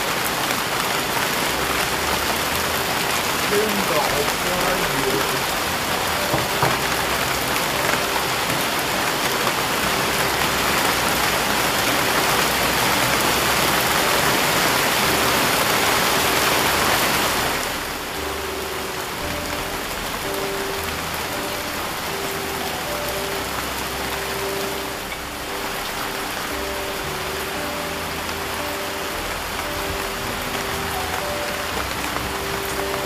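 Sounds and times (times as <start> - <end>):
heavy rain on river and foliage: 0.0 - 33.0.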